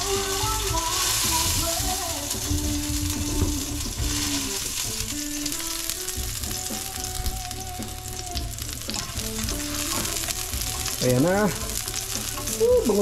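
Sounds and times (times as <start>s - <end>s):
faint music: 0.0s - 13.0s
food sizzling in a pan: 0.0s - 13.0s.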